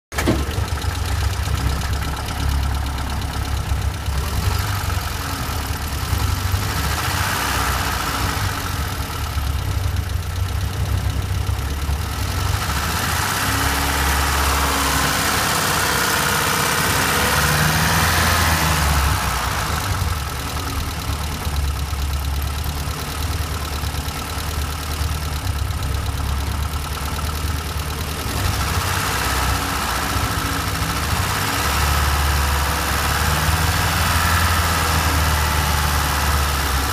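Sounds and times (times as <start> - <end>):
van engine idling: 0.1 - 36.9.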